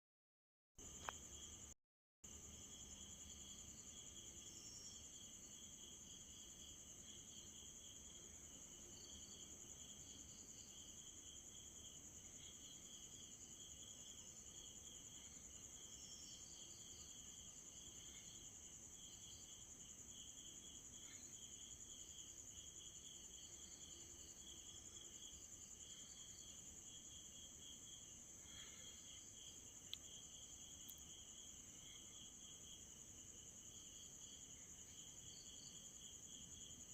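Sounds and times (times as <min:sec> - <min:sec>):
low pulsing cricket chirp: 0:00.8 - 0:36.9
insects trilling: 0:02.3 - 0:36.9.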